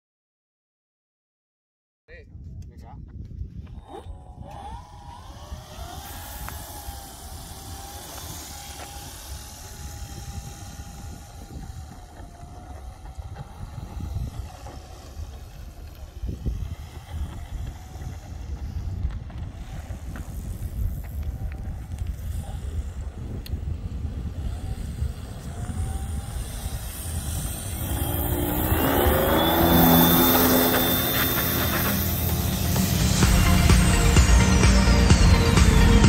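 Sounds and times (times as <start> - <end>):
wind rumble on microphone: 2.1 - 34.0
model plane motors whining: 3.6 - 36.0.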